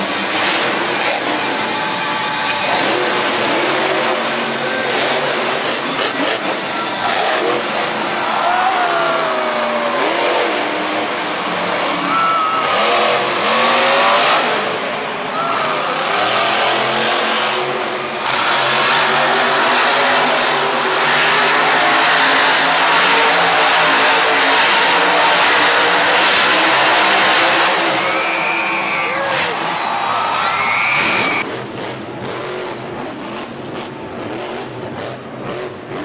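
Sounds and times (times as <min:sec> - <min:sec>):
stadium crowd noise: 0:00.0 - 0:36.0
truck engine revving: 0:00.0 - 0:36.0.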